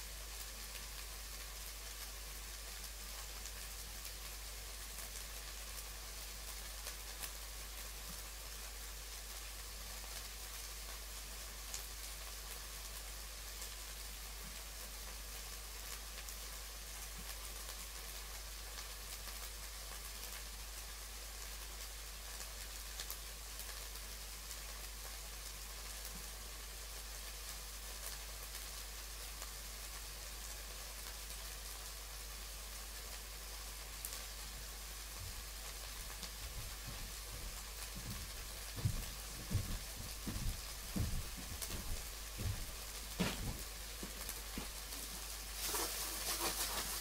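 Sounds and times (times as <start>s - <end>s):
mince sizzling in a frying pan: 0.0s - 47.0s.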